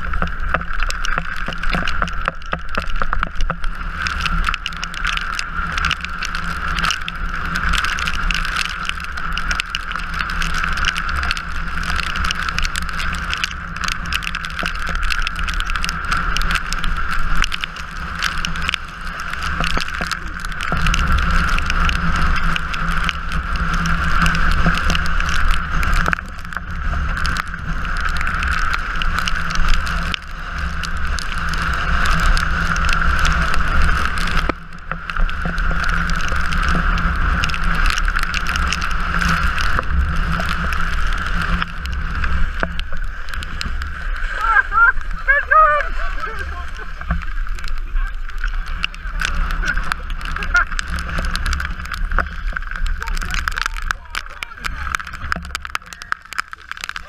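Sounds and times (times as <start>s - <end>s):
wheels rushing on wet tarmac: 0.0s - 57.0s.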